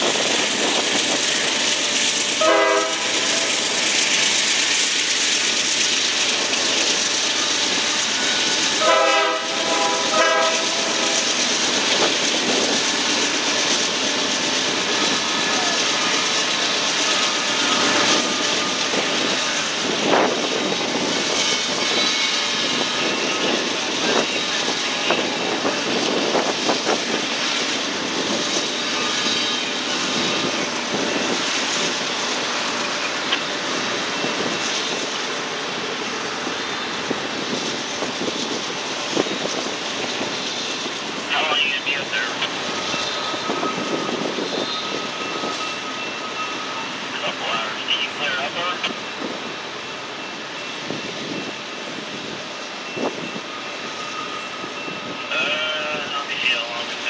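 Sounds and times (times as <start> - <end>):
train clicks and clanks: 0.0 - 57.0
train wheels rumbling on rail: 0.0 - 57.0.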